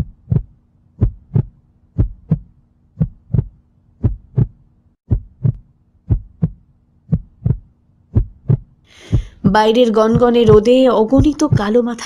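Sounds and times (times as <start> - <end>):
heartbeat thumps: 0.0 - 11.9
low steady hum: 0.0 - 12.0.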